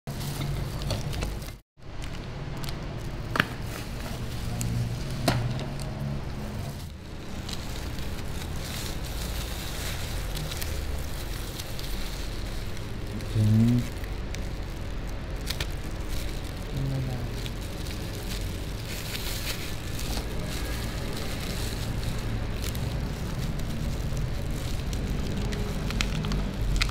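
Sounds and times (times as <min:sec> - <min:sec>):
wrappers crinkling: 0:00.1 - 0:26.9.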